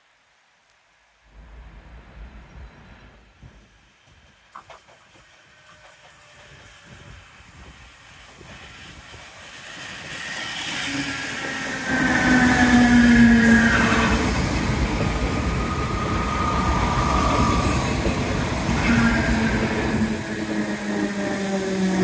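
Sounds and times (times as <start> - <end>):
wheels rumbling on rail: 1.3 - 22.0
train whining tones: 1.4 - 22.0.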